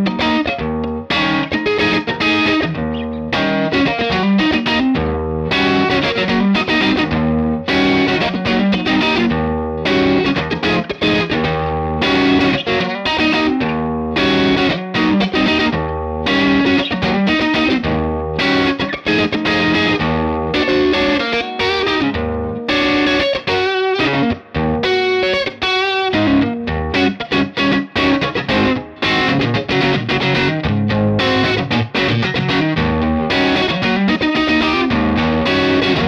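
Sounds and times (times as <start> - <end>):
electric guitar lead line: 0.0 - 36.0.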